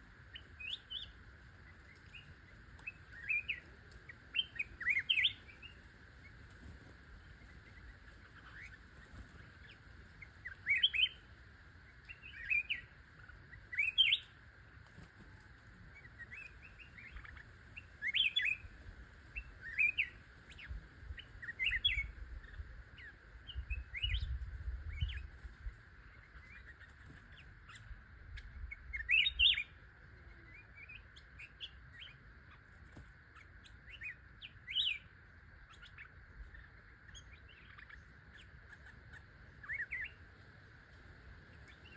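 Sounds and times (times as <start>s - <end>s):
songbird chirping: 0.0s - 41.9s.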